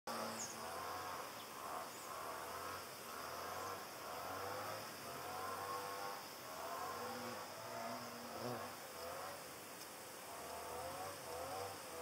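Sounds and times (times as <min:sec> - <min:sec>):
hornet buzzing in flight: 0:00.1 - 0:12.0.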